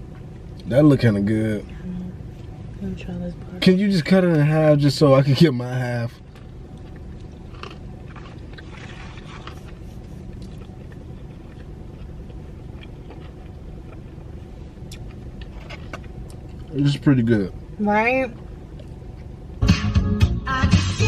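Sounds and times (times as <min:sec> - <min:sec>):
car cabin engine rumble: 0:00.0 - 0:19.8.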